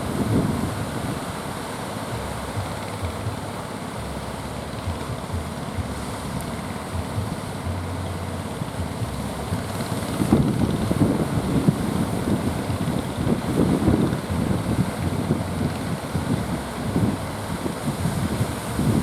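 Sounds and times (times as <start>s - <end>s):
surf rushing: 0.0s - 19.0s
wind buffeting microphone: 0.0s - 19.0s.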